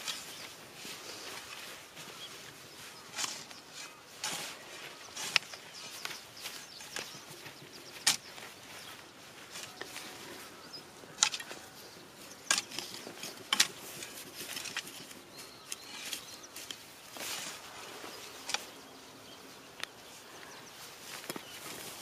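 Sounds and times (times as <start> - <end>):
soil crunching and scraping: 0.0 - 22.0.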